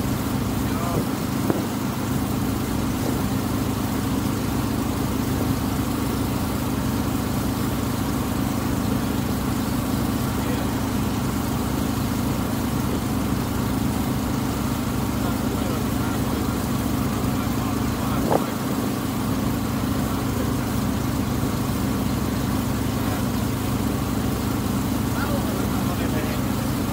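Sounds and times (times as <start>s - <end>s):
boat engine humming: 0.0s - 26.9s.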